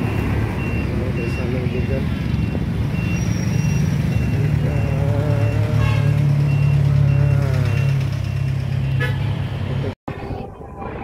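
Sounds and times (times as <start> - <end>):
high electronic beeps: 0.0 - 9.0
traffic engine hum: 0.0 - 11.0.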